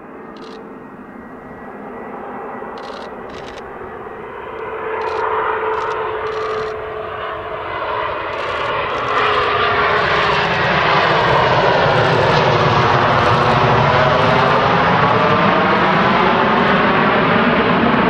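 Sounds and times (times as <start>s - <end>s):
jet engines whining on landing: 0.0s - 18.0s.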